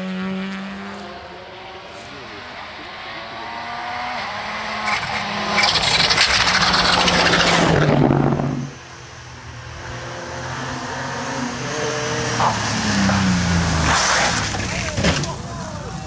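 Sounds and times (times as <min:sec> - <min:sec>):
rally car engine revving: 0:00.0 - 0:15.8
rally car passing by: 0:00.0 - 0:16.0
tyre and road noise: 0:00.0 - 0:16.0.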